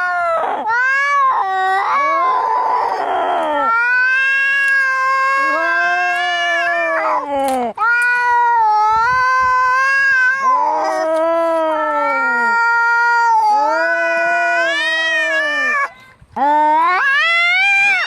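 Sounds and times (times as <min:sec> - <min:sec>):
cats yowling in a fight: 0:00.0 - 0:15.9, 0:16.8 - 0:18.0.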